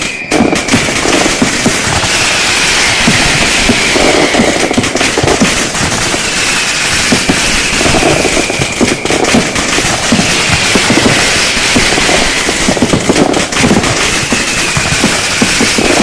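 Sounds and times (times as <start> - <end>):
falling firework whistle: 0.0 - 16.0
firecrackers crackling and banging: 0.0 - 16.0.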